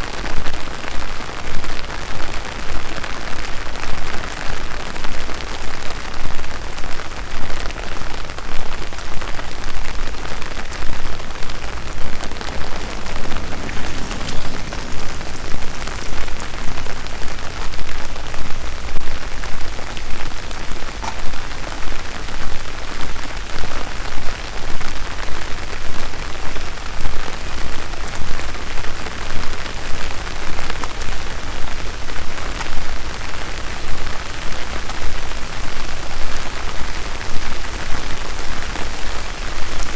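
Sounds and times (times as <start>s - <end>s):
steady rain on trees: 0.0s - 39.9s.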